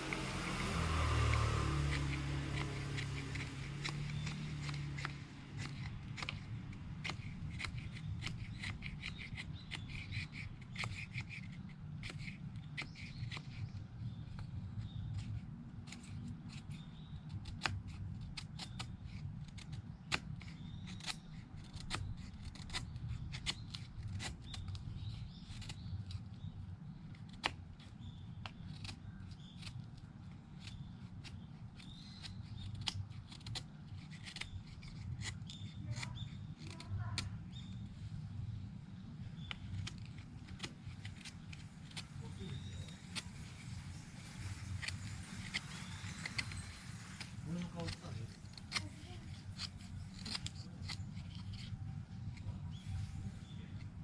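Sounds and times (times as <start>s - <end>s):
knife scraping wood: 0.0s - 38.0s, 39.0s - 54.0s
low steady rumble: 0.0s - 54.0s.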